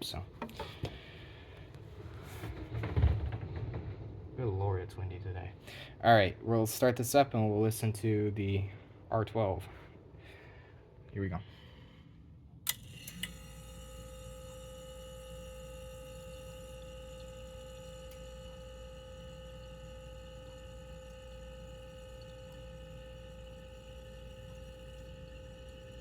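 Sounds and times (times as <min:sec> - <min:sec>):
refrigerator compressor humming: 0:00.0 - 0:03.1, 0:05.6 - 0:26.0.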